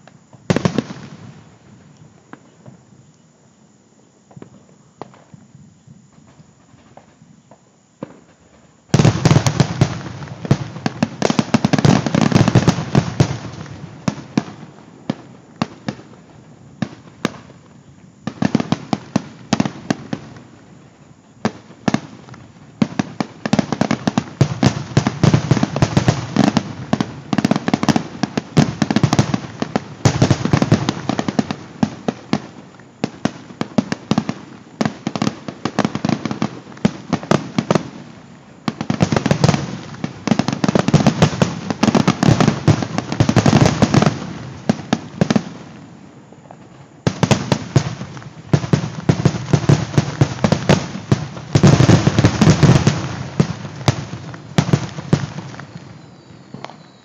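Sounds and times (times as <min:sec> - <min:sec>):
fireworks bursts and crackle: 0:00.0 - 0:03.1, 0:04.2 - 0:57.0.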